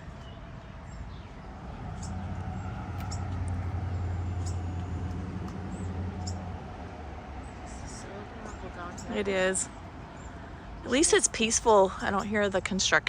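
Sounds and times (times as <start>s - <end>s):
vehicle passing: 0.8s - 12.3s.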